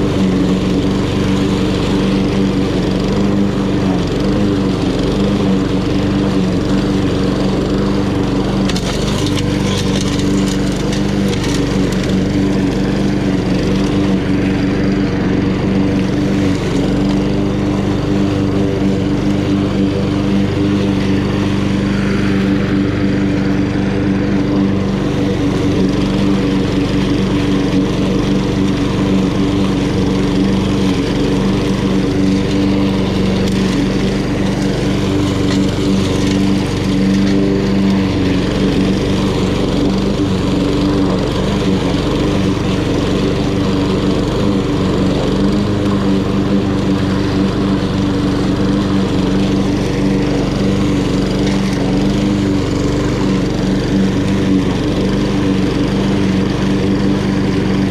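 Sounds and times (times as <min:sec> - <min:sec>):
lawn mower engine running: 0:00.0 - 0:57.9.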